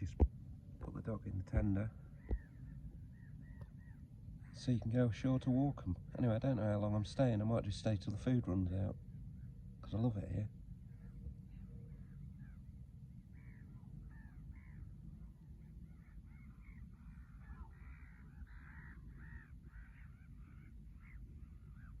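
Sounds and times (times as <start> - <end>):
birds calling: 0.0 - 22.0
steady low rumble: 0.0 - 22.0.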